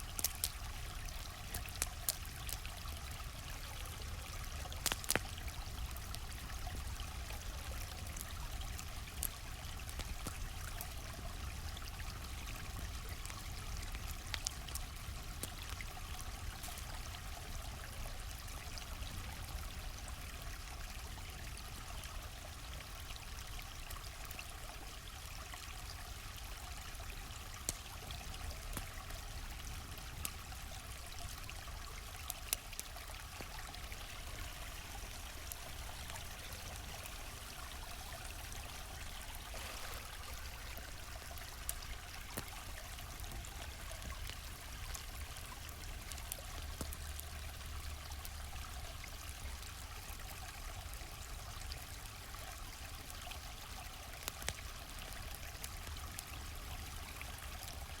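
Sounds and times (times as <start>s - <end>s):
campfire crackling and popping: 0.0s - 58.0s
stream flowing: 0.0s - 58.0s.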